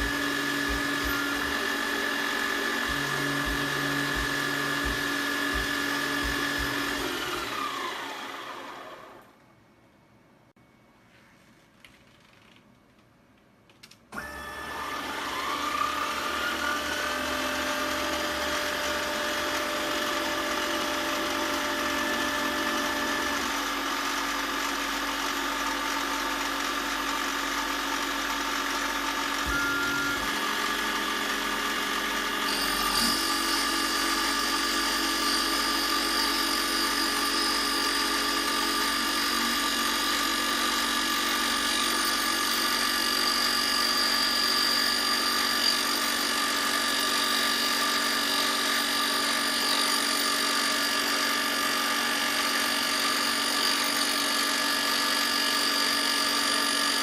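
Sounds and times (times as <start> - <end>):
electric power tool motor running: 0.0 - 9.3, 14.2 - 57.0.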